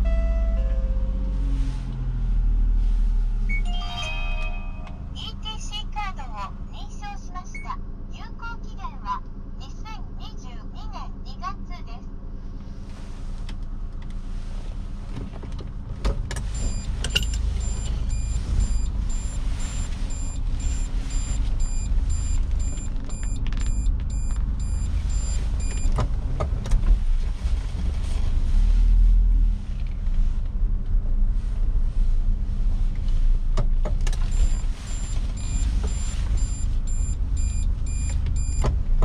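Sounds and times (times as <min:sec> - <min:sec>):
car engine low rumble: 0:00.0 - 0:39.0.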